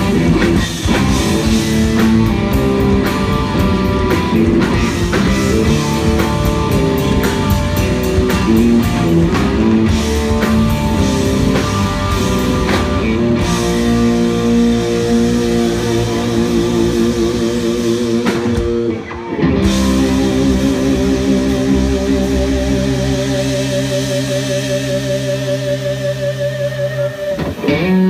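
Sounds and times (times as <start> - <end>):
bass guitar: 0.0 - 28.0
drum kit: 0.0 - 28.0
electric guitar holding long notes: 0.0 - 28.0.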